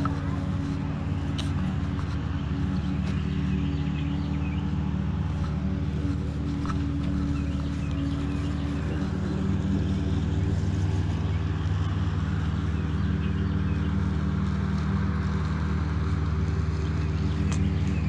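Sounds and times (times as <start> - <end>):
lawnmower engine running: 0.0 - 18.0.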